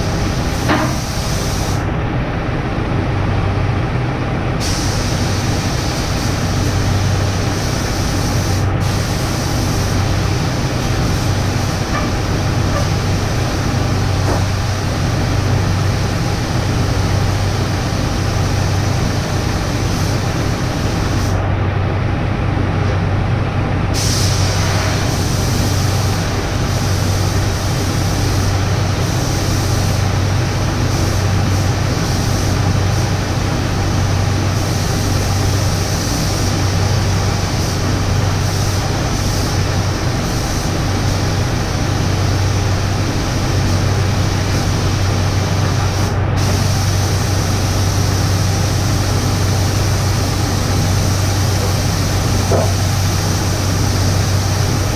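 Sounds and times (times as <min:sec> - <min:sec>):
air hiss: 0:00.0 - 0:01.9, 0:04.6 - 0:21.4, 0:24.0 - 0:54.9.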